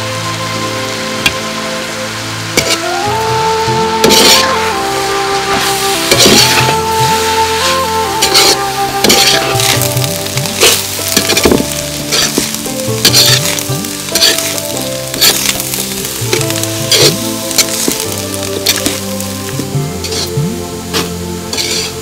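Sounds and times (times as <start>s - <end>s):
rice sizzling in pan: 0.0s - 22.0s
spatula scraping pan: 2.6s - 2.9s, 3.7s - 4.8s, 5.5s - 22.0s.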